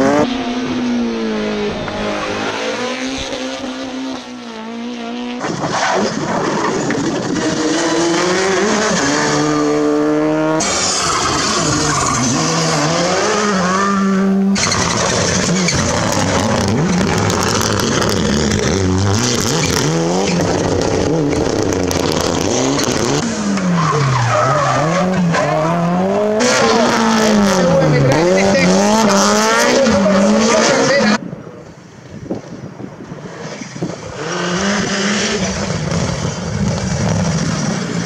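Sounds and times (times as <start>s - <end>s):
rally car engines revving: 0.0s - 31.8s, 33.0s - 38.0s.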